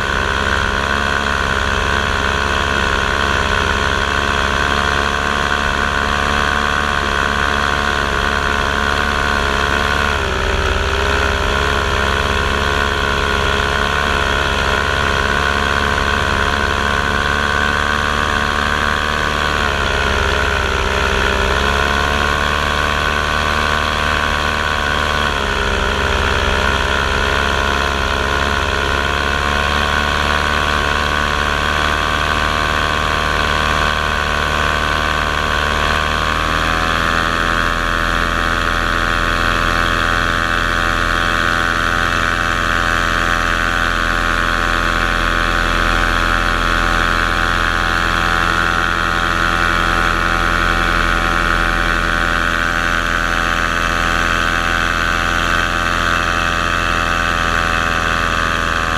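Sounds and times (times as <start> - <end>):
paramotor engine running: 0.0 - 58.9.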